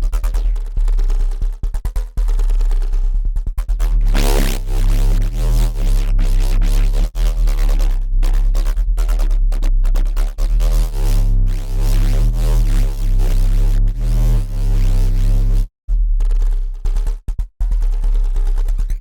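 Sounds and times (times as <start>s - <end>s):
synth bass riff: 3.7s - 19.0s.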